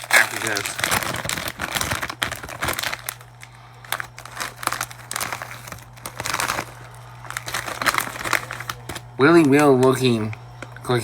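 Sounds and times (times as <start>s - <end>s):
low steady hum: 0.0s - 11.0s
plastic chip bag crinkling: 0.0s - 11.0s.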